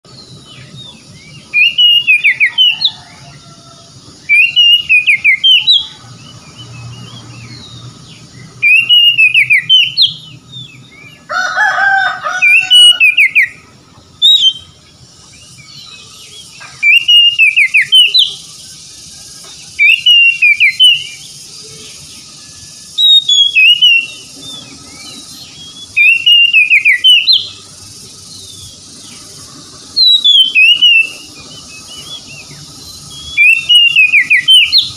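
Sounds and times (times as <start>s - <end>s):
bird whistled song: 0.1s - 11.3s, 11.9s - 34.9s
lower bird call: 0.1s - 34.9s.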